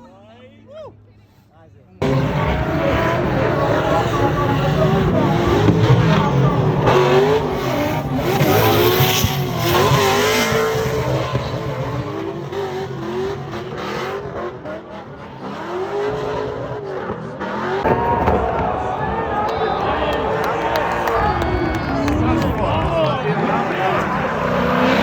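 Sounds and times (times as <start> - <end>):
car engine revving: 2.0 - 25.0.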